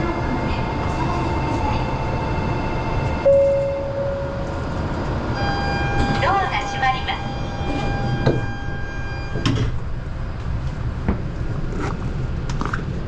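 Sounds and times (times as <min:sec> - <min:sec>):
bullet train noise: 0:00.0 - 0:13.0.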